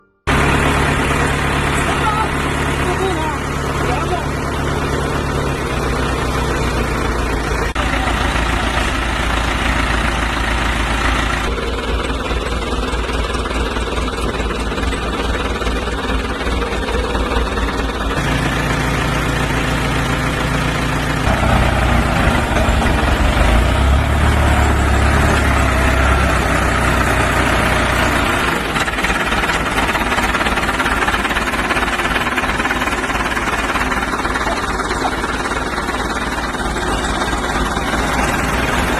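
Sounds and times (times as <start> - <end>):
engine running with knocking: 0.3 - 38.9.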